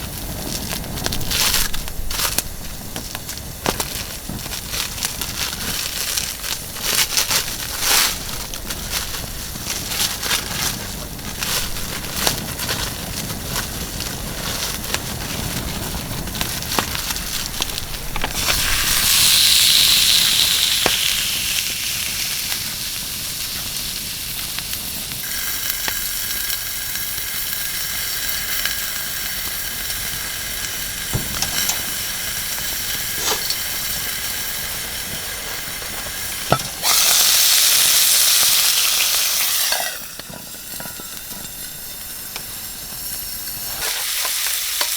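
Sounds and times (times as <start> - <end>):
loud rushing hiss: 0.0 - 44.9
wood fire crackling and popping: 0.0 - 44.9.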